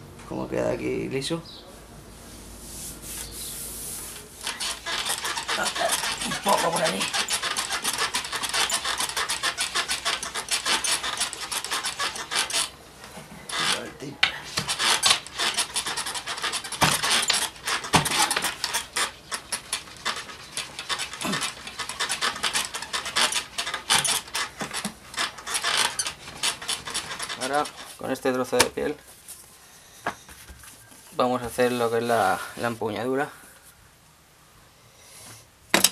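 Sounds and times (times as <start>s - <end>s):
bone scraping along wood: 2.6s - 29.4s, 30.0s - 32.8s.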